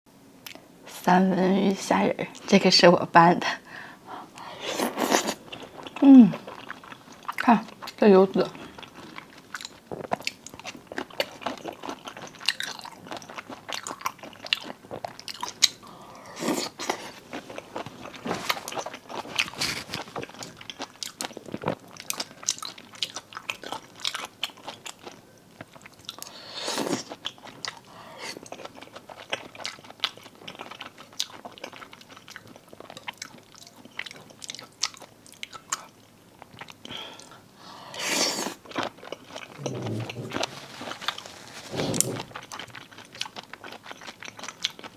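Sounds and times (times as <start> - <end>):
person chewing seafood: 4.4 - 44.9.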